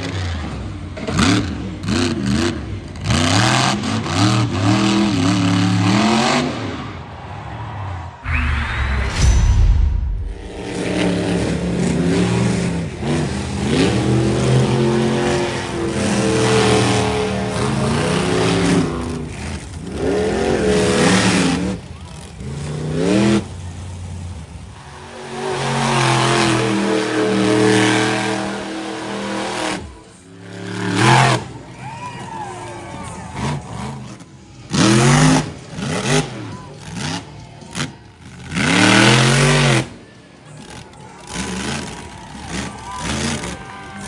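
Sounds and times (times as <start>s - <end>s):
truck engine revving hard: 0.0s - 44.0s.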